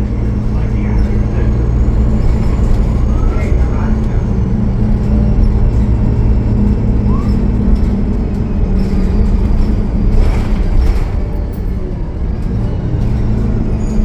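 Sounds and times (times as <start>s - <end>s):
bus diesel engine droning: 0.0s - 14.0s.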